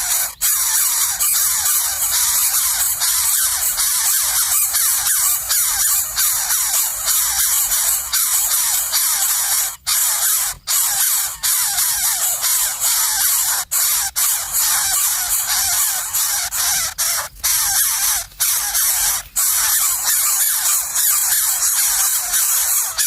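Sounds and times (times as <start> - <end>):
nestling birds begging calls: 0.0 - 23.0.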